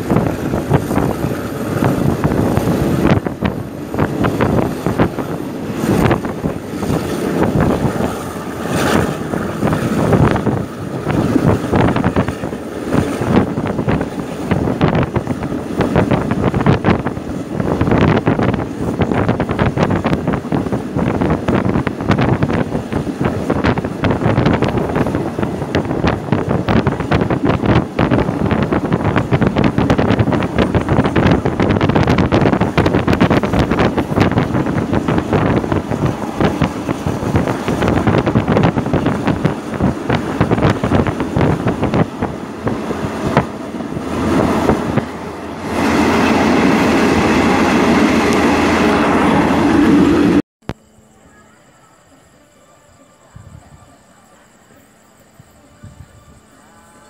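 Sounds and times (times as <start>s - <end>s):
train rolling rumble: 0.0s - 57.0s.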